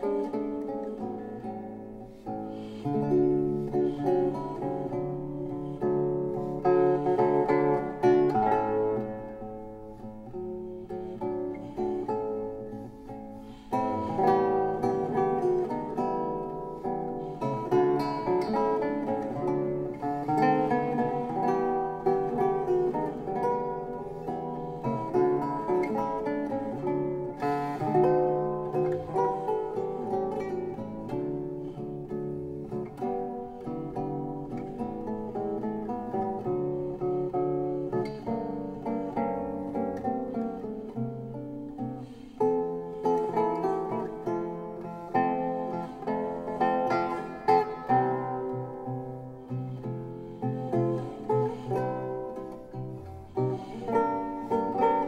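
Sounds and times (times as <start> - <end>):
acoustic guitar tune: 0.0 - 55.0.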